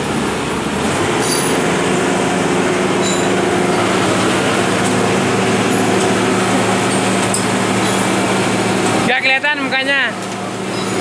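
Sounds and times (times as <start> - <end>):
loader engine droning: 0.0 - 11.0.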